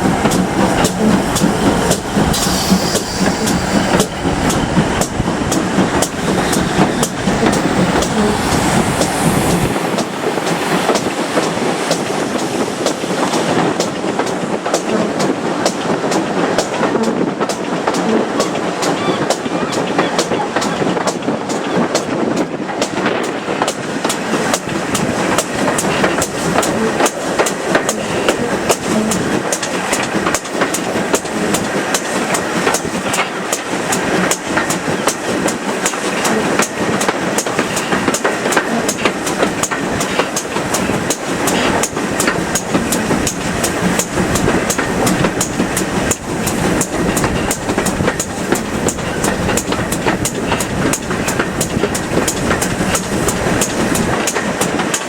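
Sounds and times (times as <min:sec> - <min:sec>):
steam train rumbling: 0:00.0 - 0:55.0
train wheel clicks: 0:00.0 - 0:55.0.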